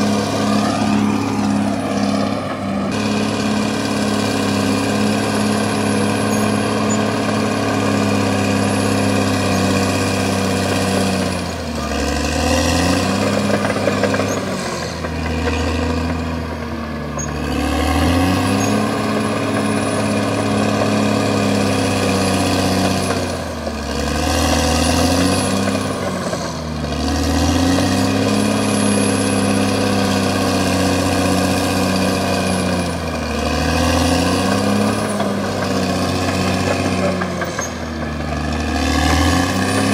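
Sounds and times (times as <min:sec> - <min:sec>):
bulldozer diesel engine running hard: 0:00.0 - 0:39.9.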